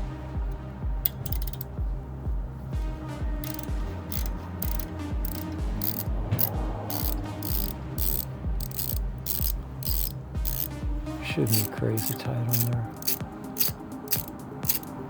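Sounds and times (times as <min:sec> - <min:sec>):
background music with steady beat: 0:00.0 - 0:15.0
socket ratchet clicking: 0:00.5 - 0:01.7, 0:03.4 - 0:10.8, 0:11.5 - 0:15.0.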